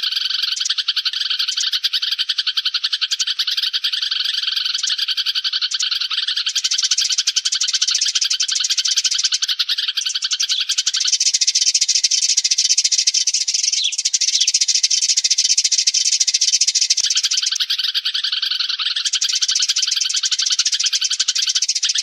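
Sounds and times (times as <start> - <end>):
sparrows chirping rapidly: 0.0 - 22.0.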